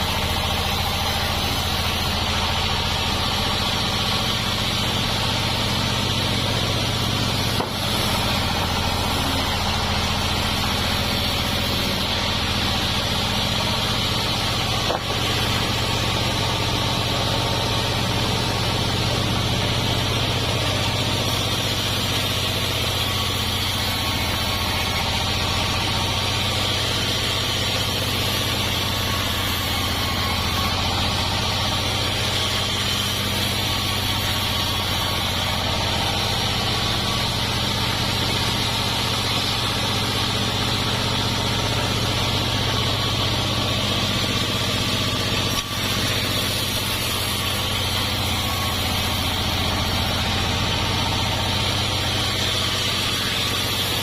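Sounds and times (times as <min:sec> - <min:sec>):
sawmill hiss: 0:00.0 - 0:54.0
sawmill motor humming: 0:00.0 - 0:54.0.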